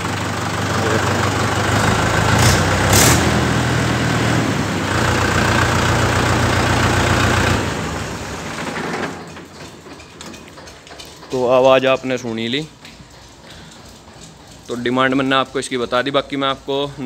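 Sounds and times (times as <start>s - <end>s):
diesel tractor engine running: 0.0s - 16.8s.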